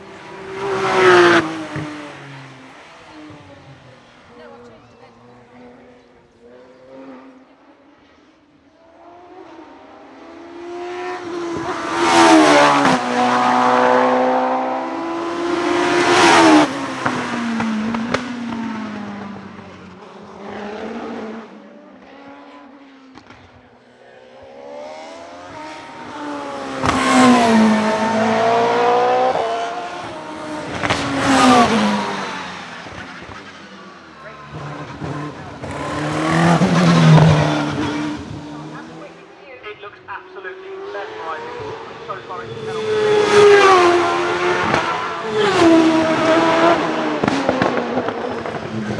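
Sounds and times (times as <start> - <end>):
race car engines revving past: 0.0 - 48.9.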